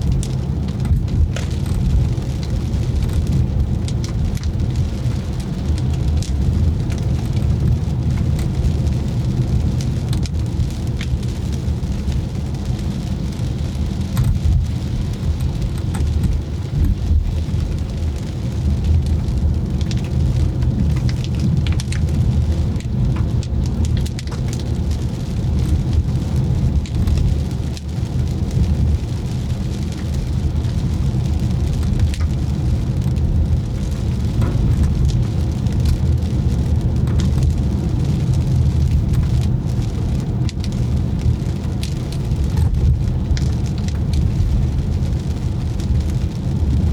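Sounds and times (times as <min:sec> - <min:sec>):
raindrops striking car: 0:00.0 - 0:46.9
tyres and engine on wet road: 0:00.0 - 0:46.9.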